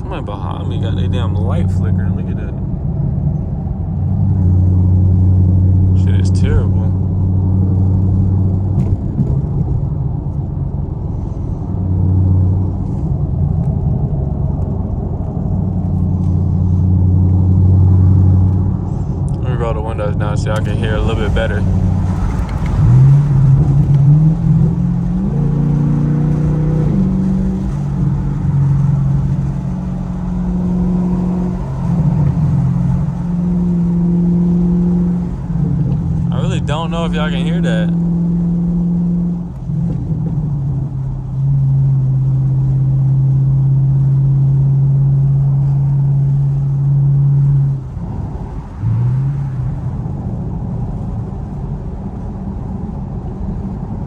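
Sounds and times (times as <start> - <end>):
car engine under throttle: 0.0 - 54.0.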